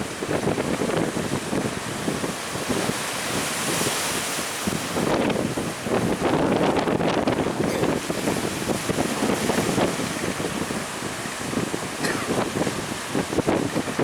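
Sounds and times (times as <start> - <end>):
rough sea waves: 0.0 - 14.0
strong wind buffeting microphone: 0.0 - 14.0.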